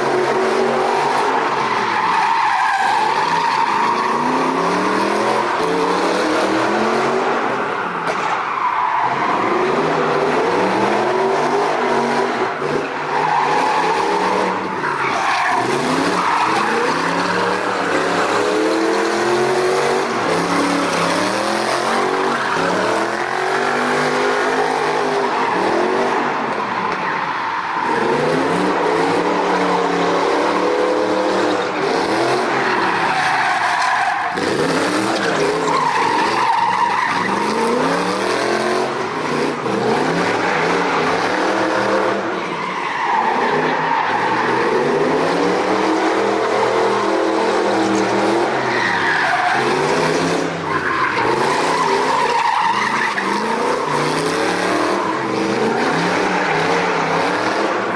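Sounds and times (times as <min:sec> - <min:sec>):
car engine revving: 0:00.0 - 0:57.9
tyres squealing and skidding: 0:00.0 - 0:57.9.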